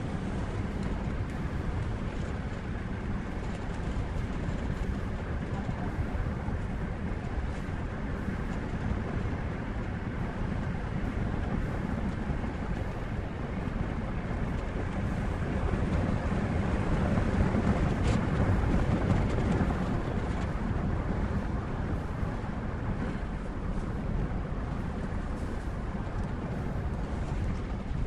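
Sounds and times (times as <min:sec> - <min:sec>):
heavy vehicle engine rumbling: 0:00.0 - 0:28.0.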